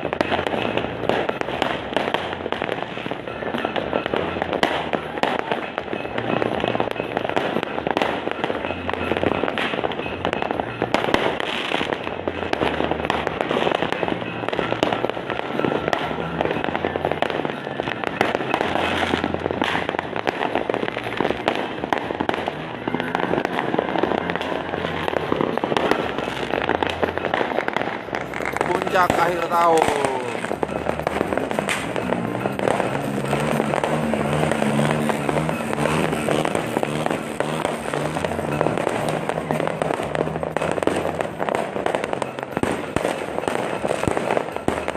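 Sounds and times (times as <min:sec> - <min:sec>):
fireworks and firecrackers bangs: 0:00.0 - 0:44.9
music playing: 0:00.0 - 0:44.9.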